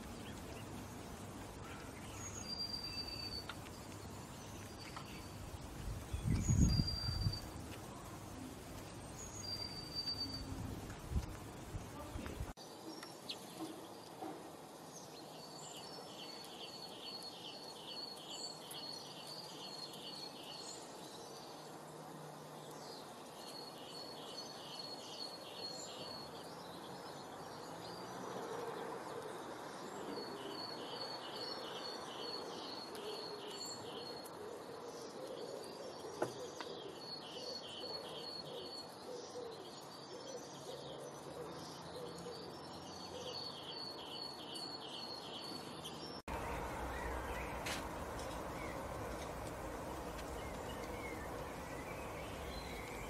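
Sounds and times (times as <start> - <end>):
outdoor background noise: 0.0 - 53.0
songbird singing: 0.0 - 53.0.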